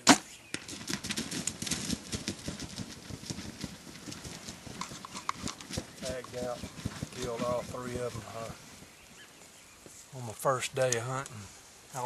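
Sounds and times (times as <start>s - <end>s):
turkeys moving through dry brush: 0.4s - 10.8s.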